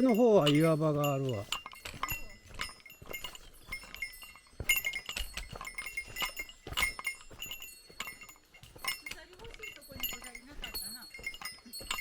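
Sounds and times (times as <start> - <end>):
footfalls on a trail: 0.0 - 12.0
small metal bell jingling: 0.0 - 12.0.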